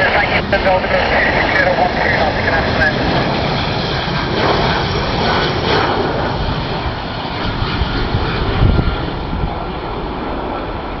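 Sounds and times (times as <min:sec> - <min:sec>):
airliner jet engines passing: 0:00.0 - 0:11.0.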